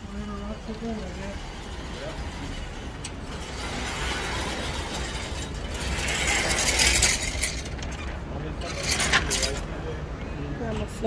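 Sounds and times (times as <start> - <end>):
mechanism rattling and clicking: 0.6 - 9.7.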